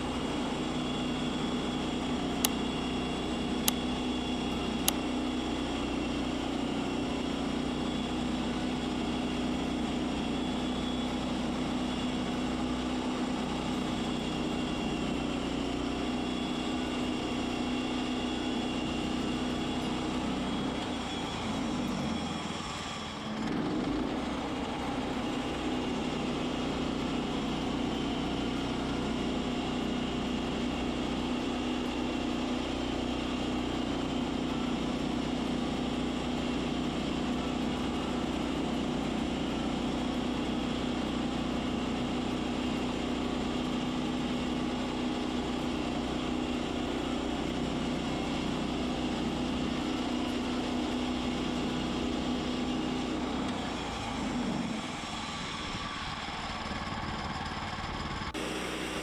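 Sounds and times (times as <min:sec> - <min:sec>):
gas engine running under load: 0:00.0 - 0:59.0.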